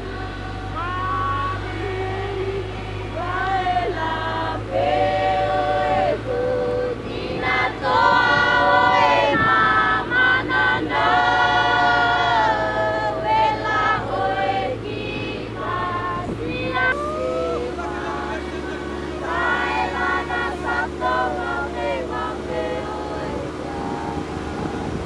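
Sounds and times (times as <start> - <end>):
choir singing: 0.0 - 25.0
low vehicle hum: 0.0 - 25.0.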